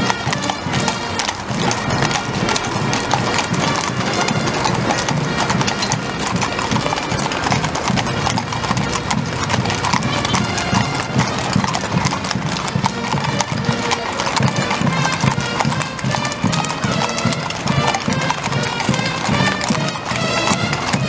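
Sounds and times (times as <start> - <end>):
horse hooves clip-clopping on asphalt: 0.0 - 21.0
military band playing a march: 0.0 - 21.0.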